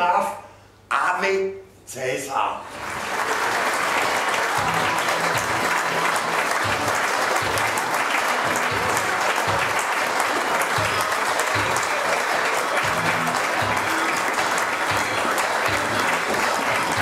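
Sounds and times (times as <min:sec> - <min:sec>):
audience applauding: 0:02.7 - 0:17.0.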